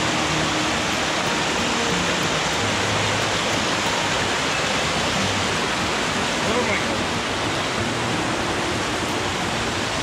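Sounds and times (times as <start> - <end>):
creek cascading over rocks: 0.0 - 10.0.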